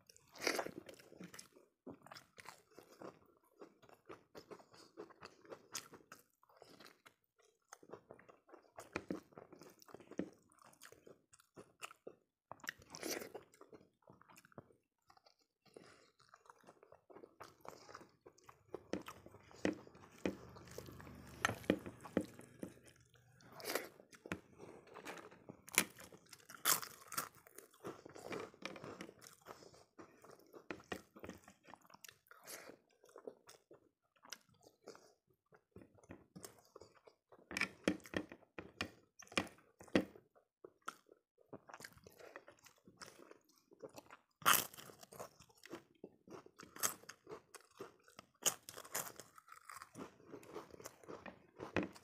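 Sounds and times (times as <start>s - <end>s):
quiet chewing: 0.0s - 52.0s.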